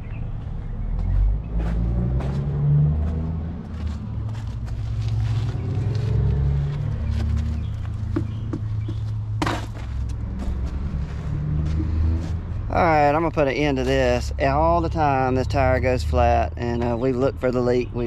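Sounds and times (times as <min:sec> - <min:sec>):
vehicle engine running: 0:00.0 - 0:17.5.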